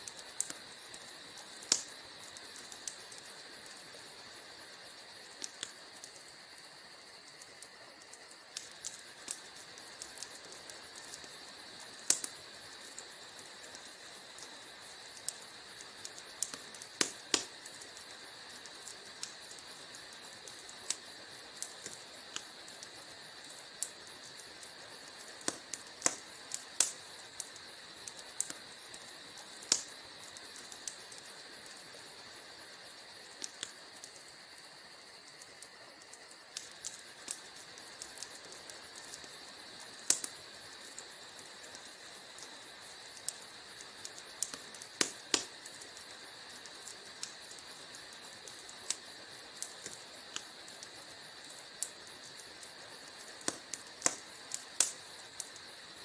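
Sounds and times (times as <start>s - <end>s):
steady hiss of fire: 0.0s - 56.0s
wood fire crackling: 0.0s - 56.0s.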